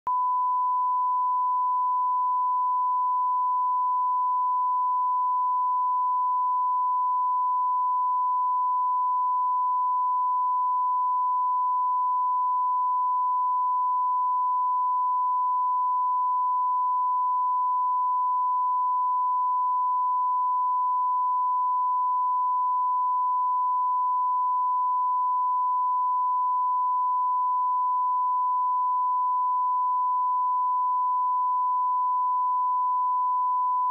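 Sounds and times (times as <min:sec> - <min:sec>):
steady sine-wave tone: 0:00.1 - 0:33.9.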